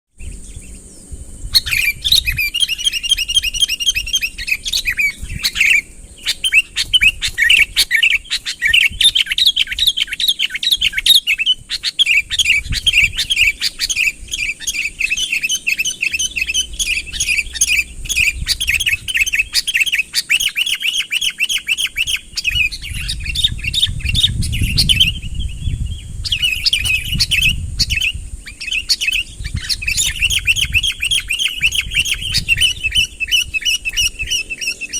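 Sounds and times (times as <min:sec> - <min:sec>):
bird singing chattering notes: 0:00.2 - 0:34.9.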